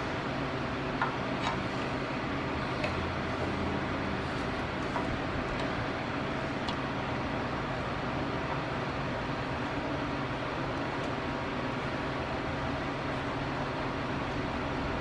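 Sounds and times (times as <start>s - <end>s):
low hum and hiss: 0.0s - 15.0s.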